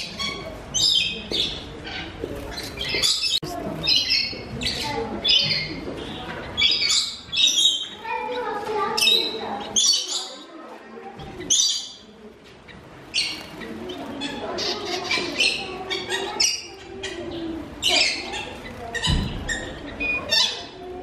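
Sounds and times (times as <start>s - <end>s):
finches chirping: 0.0s - 21.0s.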